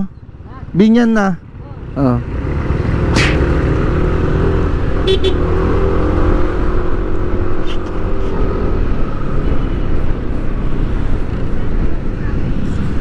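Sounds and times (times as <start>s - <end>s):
road and traffic rumble: 0.0s - 13.0s.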